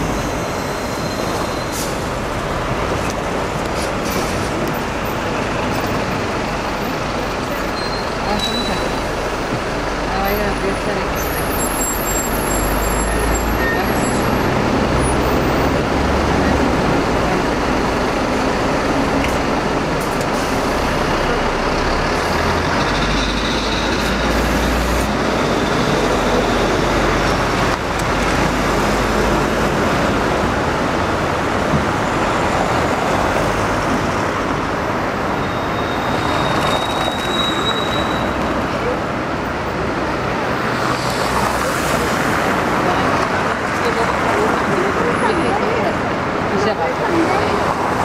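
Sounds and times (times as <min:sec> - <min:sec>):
bus engine rumbling: 0:00.0 - 0:48.0
city street traffic: 0:00.0 - 0:48.0.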